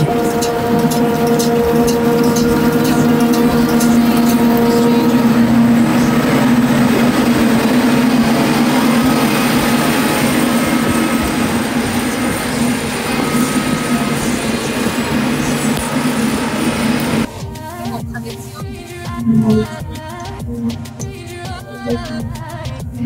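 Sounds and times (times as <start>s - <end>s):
forage harvester machine hum: 0.0s - 19.8s.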